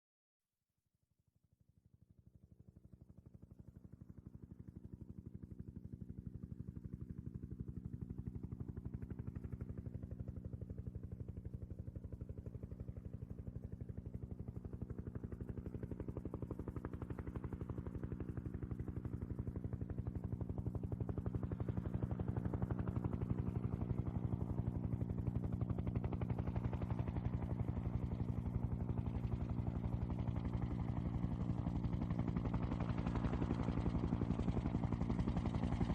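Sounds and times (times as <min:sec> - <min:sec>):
helicopter rotor beating: 0:03.0 - 0:35.9
helicopter engine tone: 0:04.0 - 0:35.9.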